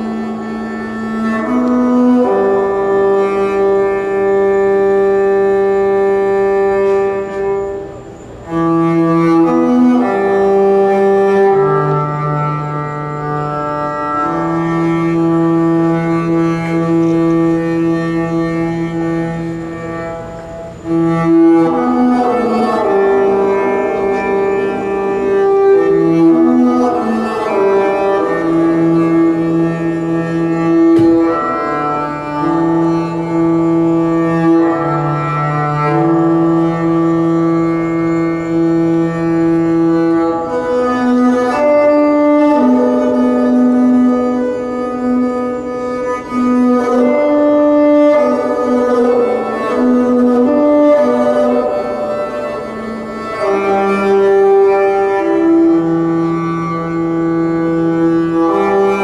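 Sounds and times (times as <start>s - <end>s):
bowed long string notes: 0.0s - 59.0s.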